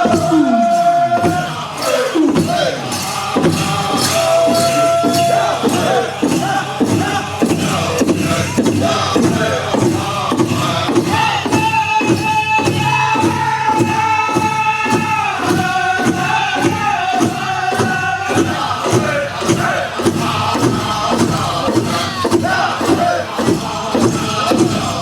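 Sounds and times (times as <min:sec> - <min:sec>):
big drum beating: 0:00.0 - 0:25.0
men singing long notes: 0:00.0 - 0:25.0.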